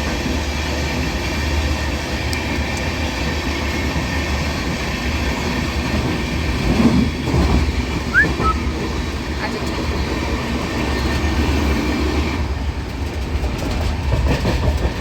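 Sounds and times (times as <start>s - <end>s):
train rumble inside carriage: 0.0s - 15.0s
train wheels on rails: 0.0s - 15.0s.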